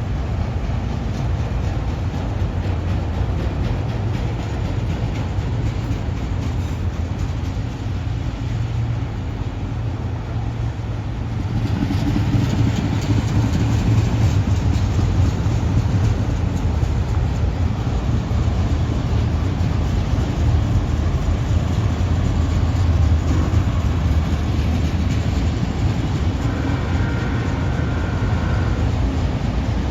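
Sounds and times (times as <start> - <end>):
locomotive engines rumbling: 0.0 - 29.9.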